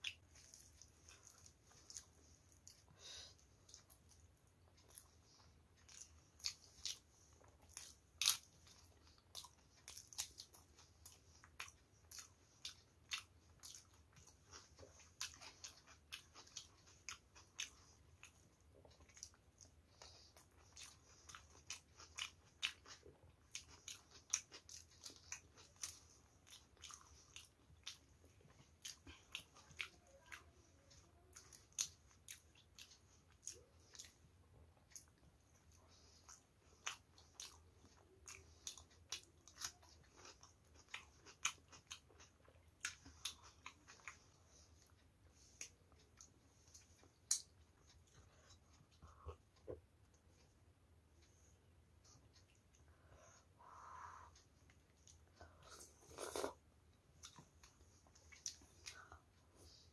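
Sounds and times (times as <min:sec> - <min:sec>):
close chewing with wet mouth sounds: 0:00.0 - 0:59.9.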